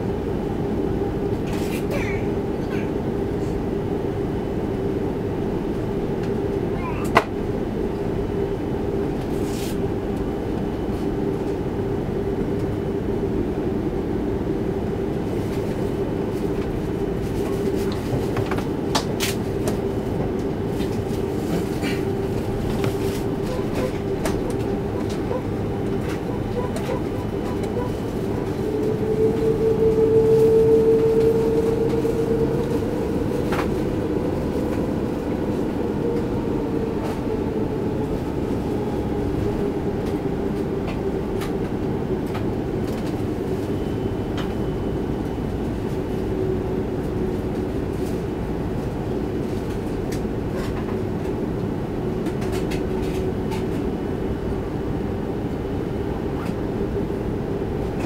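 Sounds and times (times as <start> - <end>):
jet engine hum and whine: 0.0 - 58.0.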